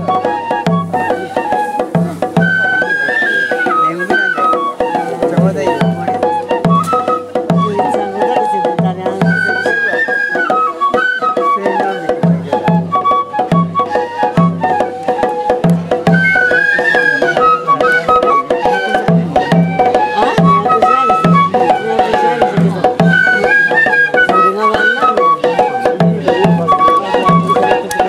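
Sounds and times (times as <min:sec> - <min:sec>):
bamboo flute melody: 0:00.0 - 0:28.0
steady drum beat: 0:00.0 - 0:28.0.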